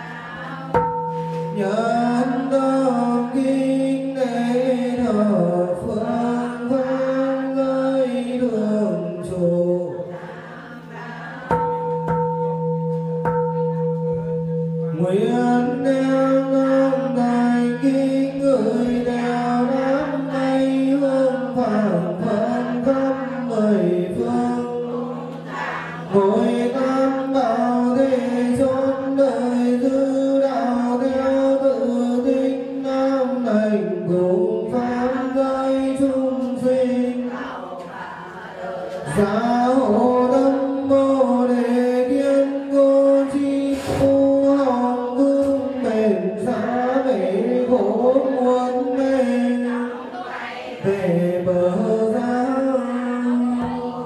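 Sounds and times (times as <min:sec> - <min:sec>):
group chanting: 0:00.0 - 0:12.5, 0:15.0 - 0:30.0, 0:34.5 - 0:54.0.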